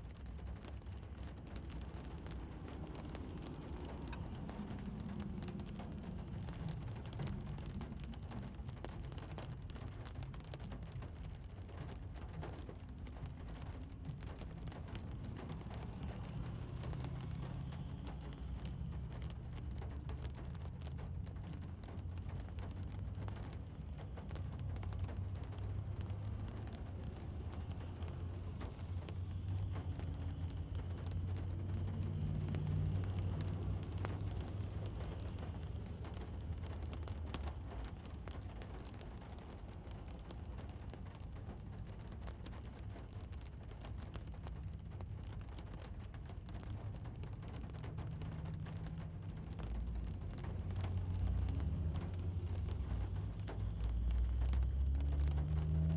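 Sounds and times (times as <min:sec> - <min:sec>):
distant traffic rumble: 0:00.0 - 0:55.9
rain pattering on car roof: 0:00.0 - 0:55.9.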